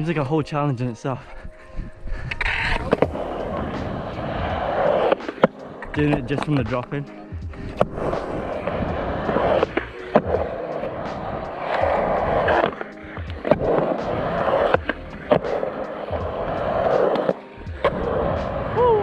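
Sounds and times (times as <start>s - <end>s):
skateboard wheels rolling on concrete: 2.1s - 19.0s
skateboard clacks: 2.5s - 18.8s.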